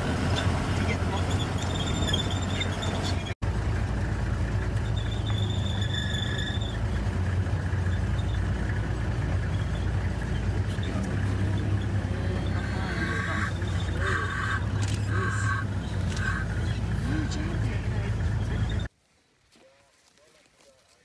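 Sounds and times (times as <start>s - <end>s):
vehicle engine idling: 0.0s - 18.9s.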